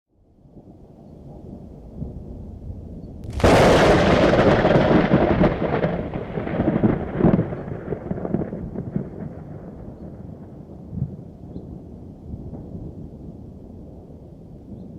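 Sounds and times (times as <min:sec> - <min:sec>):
thunderclap with rolling rumble: 0:00.7 - 0:14.9.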